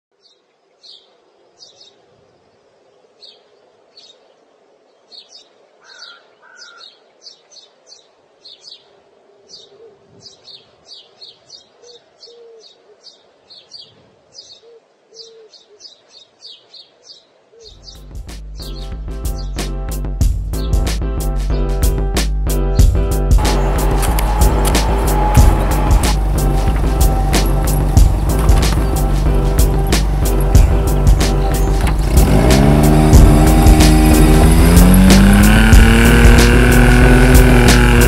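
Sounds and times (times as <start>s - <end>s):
small birds chirping: 0.1s - 19.8s, 23.4s - 38.0s
lower bird calls: 0.2s - 18.8s, 23.4s - 36.6s.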